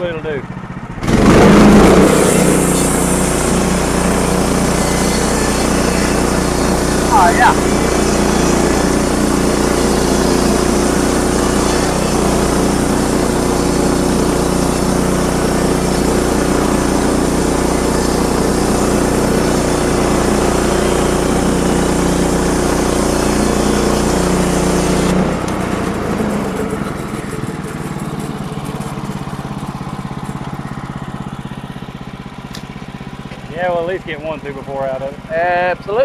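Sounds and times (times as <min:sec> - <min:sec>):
sawmill engine running: 0:00.0 - 0:36.0
saw blade cutting log: 0:01.0 - 0:31.3.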